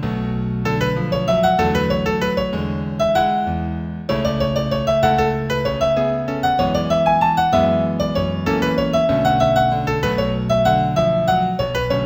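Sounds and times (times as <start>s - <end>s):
piano-toned keyboard music: 0.0s - 12.0s.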